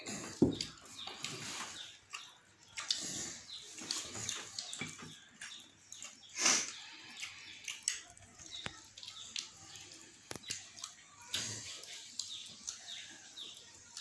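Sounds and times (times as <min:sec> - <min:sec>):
wet chewing and lip-smacking: 0:00.5 - 0:14.0.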